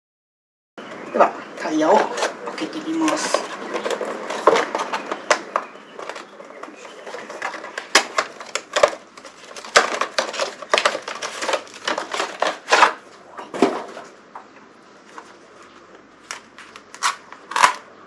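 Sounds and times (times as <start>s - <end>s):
packaging crackling and rustling: 1.6s - 14.1s, 15.0s - 17.9s.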